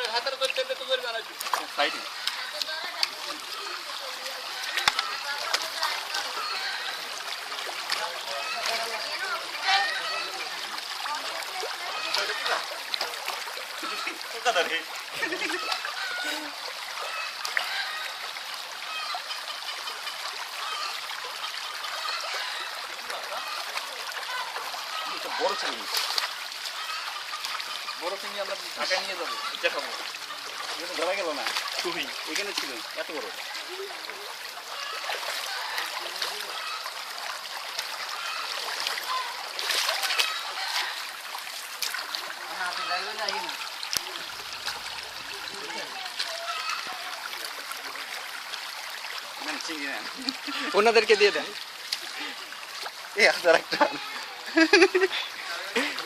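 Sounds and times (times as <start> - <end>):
splashing in water: 0.0 - 56.0
stream trickling over rocks: 0.0 - 56.0.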